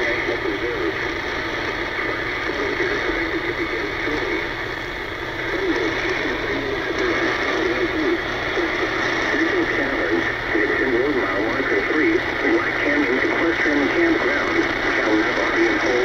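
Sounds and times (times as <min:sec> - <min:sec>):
muffled garbled announcer voice: 0:00.0 - 0:16.0
radio static: 0:00.0 - 0:16.0.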